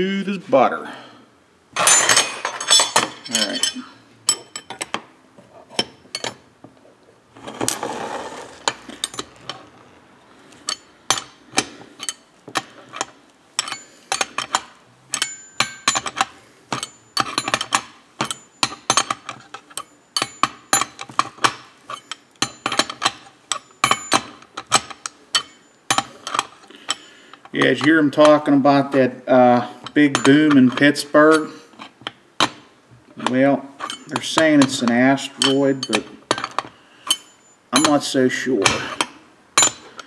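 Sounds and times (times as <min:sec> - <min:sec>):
metal wrenches clinking: 0:01.8 - 0:05.0, 0:05.6 - 0:06.5, 0:07.4 - 0:09.9, 0:10.5 - 0:40.0.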